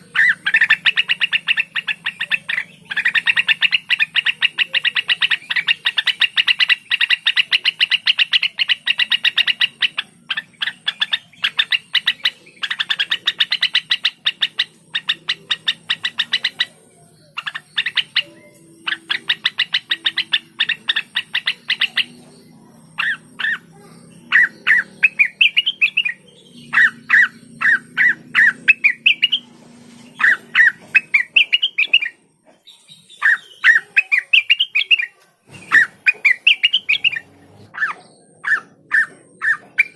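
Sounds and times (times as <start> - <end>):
bird chattering chirps: 0.0 - 39.9
bird upswept whistled notes: 0.0 - 39.9.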